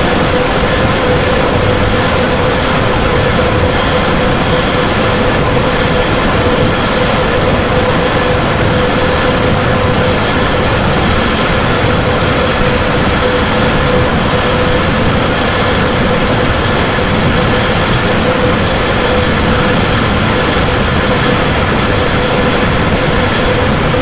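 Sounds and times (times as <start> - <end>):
steady mid-pitched hum: 0.0 - 24.0.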